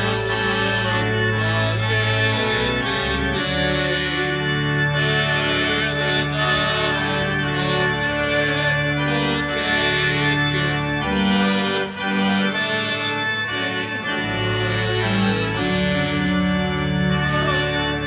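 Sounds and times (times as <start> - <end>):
organ playing held chords: 0.0 - 18.0.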